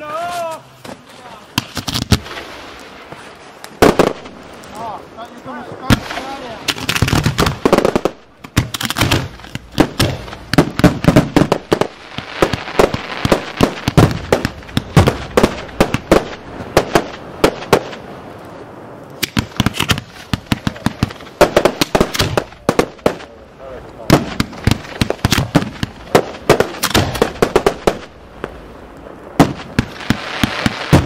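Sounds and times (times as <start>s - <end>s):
fireworks bangs and cracks: 1.5s - 31.0s.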